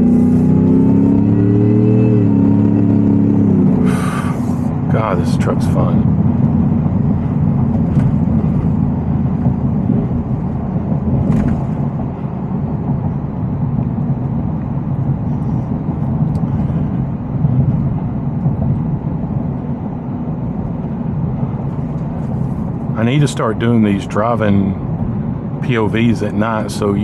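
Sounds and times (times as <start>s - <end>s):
road rumble: 0.0s - 27.0s
truck engine drone: 0.0s - 27.0s.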